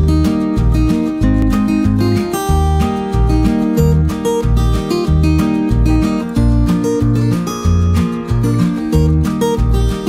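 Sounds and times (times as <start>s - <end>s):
steady bass line: 0.0s - 10.0s
strummed acoustic guitar: 0.0s - 10.0s.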